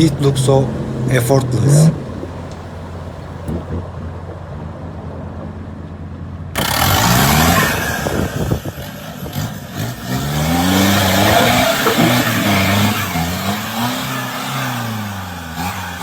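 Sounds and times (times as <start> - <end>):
off-road vehicle engine revving: 0.0 - 5.1, 6.4 - 16.0.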